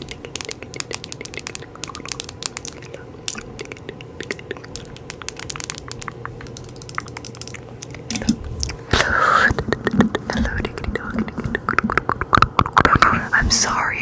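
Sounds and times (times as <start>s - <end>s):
rapid clicks and crackles: 0.0s - 13.4s
faint steady hum: 0.0s - 14.0s.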